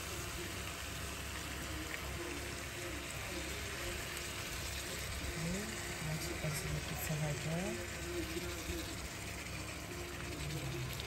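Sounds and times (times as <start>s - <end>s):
food sizzling in a frying pan: 0.0s - 11.0s
milk being poured: 0.0s - 11.0s.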